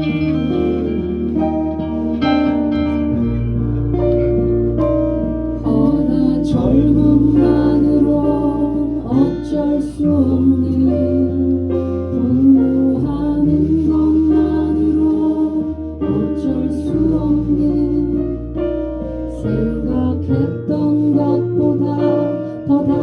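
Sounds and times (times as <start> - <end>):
person singing: 0.0 - 3.3, 4.8 - 23.0
live band music: 0.0 - 19.8.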